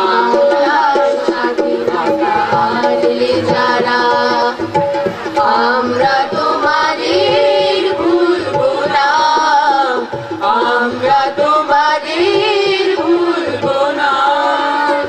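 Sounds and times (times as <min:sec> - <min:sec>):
chorus singing in unison: 0:00.0 - 0:15.0
drum beats: 0:00.0 - 0:15.0
harmonium: 0:00.0 - 0:15.0.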